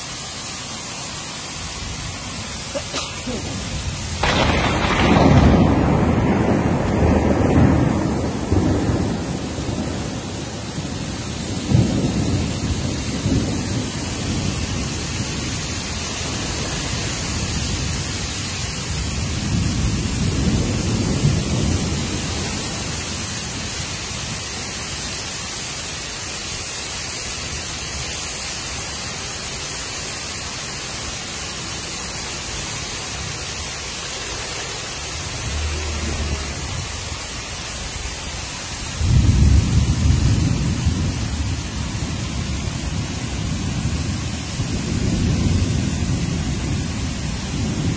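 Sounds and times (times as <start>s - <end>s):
heavy rain hiss: 0.0s - 47.9s
thunder rumbles: 1.6s - 25.2s, 32.2s - 47.9s.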